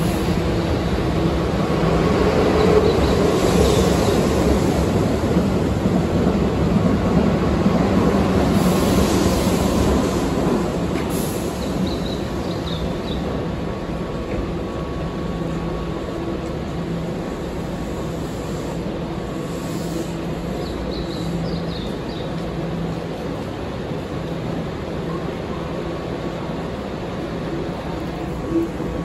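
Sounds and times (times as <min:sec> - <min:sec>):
electric train rumbling and humming: 0:00.0 - 0:29.0.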